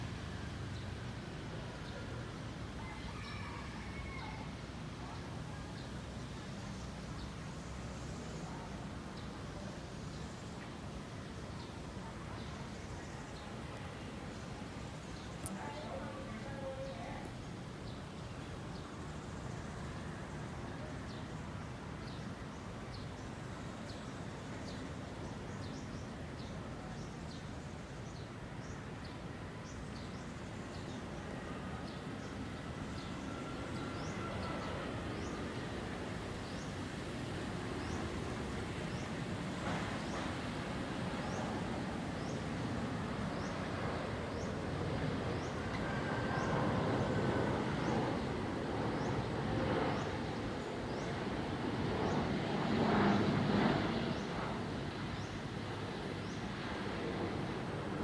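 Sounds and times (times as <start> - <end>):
jet engine noise: 4.4 - 58.0.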